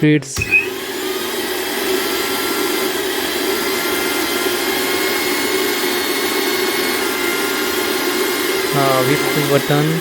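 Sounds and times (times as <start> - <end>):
mixer grinder motor whirring: 0.0 - 10.0.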